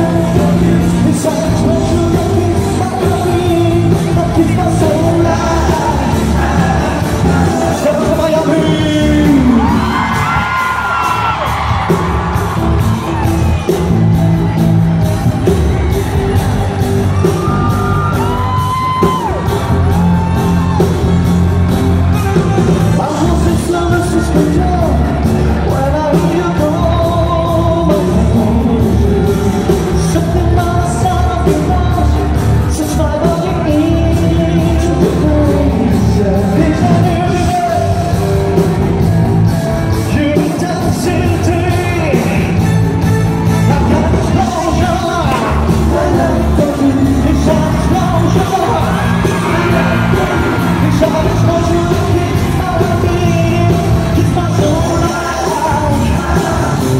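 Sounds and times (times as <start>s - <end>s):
audience shouting and yelling: 0.0s - 56.9s
live pop band with singers: 0.0s - 56.9s.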